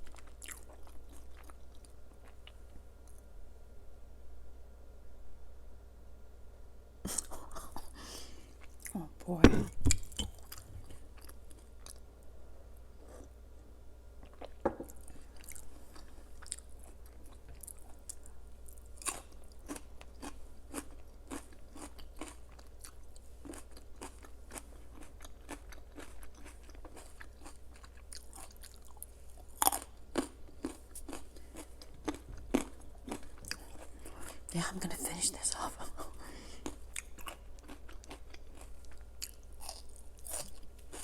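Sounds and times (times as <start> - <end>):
chewing crunchy food: 0.0 - 3.3, 8.5 - 9.0, 9.9 - 12.1, 14.2 - 41.0.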